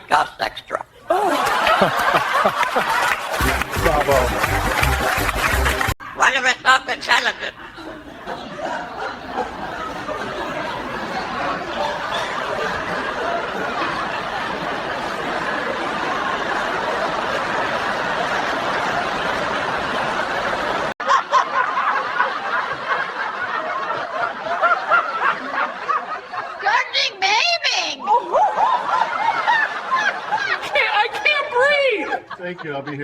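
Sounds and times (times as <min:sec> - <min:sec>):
crowd laughing: 0:01.0 - 0:06.3, 0:07.2 - 0:33.0.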